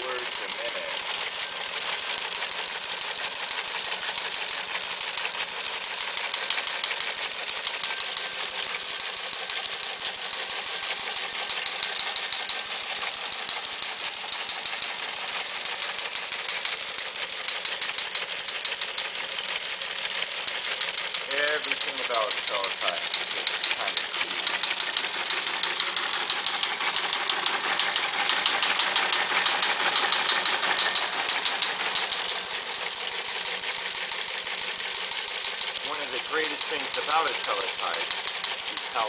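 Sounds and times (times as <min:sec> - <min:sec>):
teleprinter clattering: 0:00.0 - 0:39.0.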